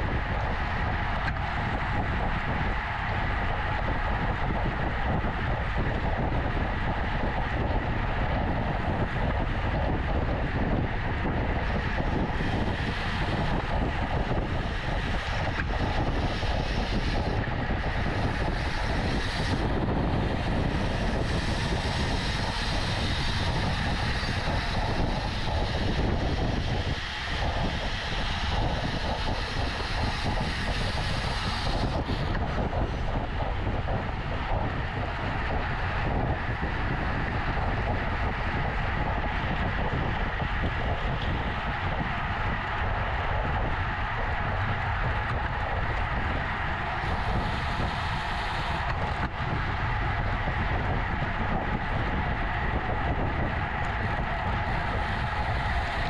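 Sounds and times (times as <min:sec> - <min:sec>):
wind rush over microphone: 0:00.0 - 0:56.0.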